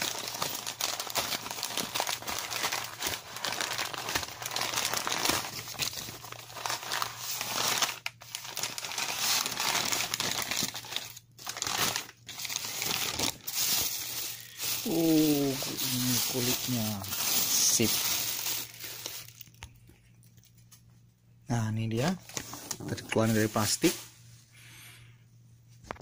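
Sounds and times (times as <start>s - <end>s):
paper and plastic bag crinkling: 0.0s - 20.9s, 22.0s - 24.2s.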